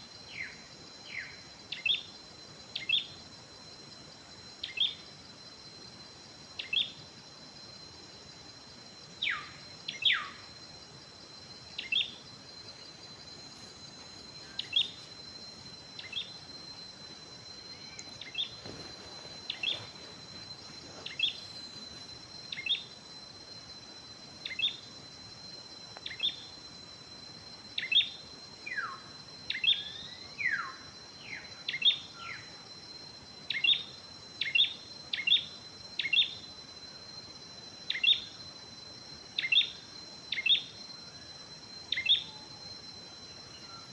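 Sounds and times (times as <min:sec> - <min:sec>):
insect drone: 0:00.0 - 0:43.9.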